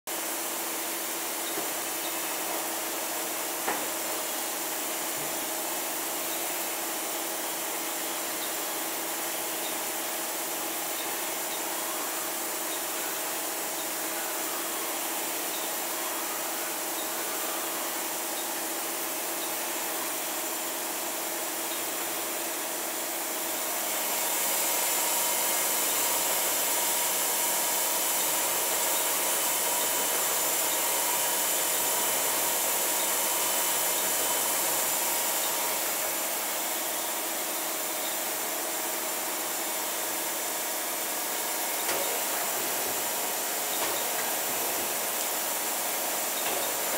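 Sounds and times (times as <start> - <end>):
lathe machine hum and hiss: 0.1 - 46.9.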